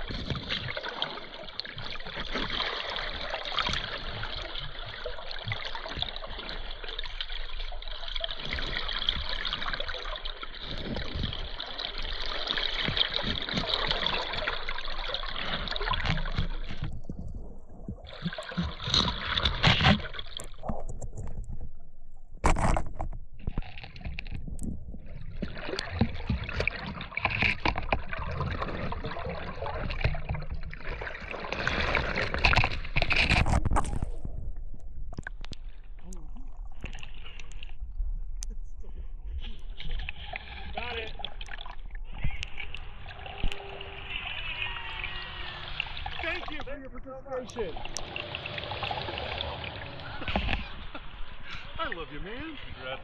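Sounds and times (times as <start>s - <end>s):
muffled river water rushing: 0.0s - 53.0s.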